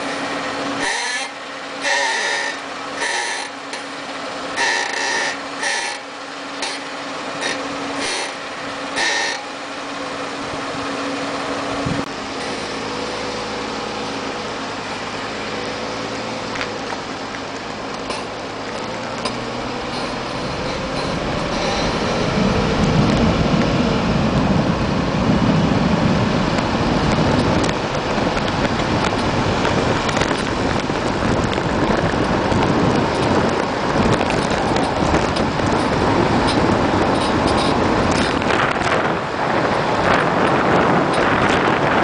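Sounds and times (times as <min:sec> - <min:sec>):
road and tyre noise: 0:00.0 - 0:42.0.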